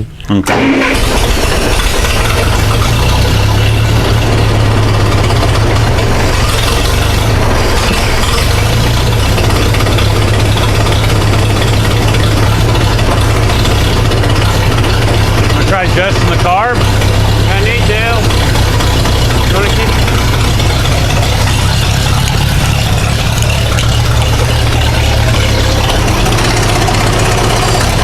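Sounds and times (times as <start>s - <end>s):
tractor engine running steadily: 0.0s - 28.0s.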